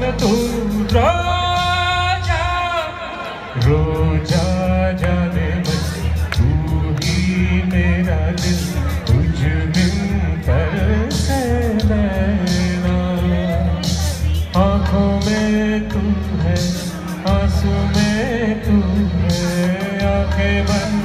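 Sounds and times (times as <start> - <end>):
man singing into a microphone: 0.0 - 21.0
recorded backing music: 0.0 - 21.0
steady bass line: 0.0 - 21.0
percussion beats: 3.6 - 21.0.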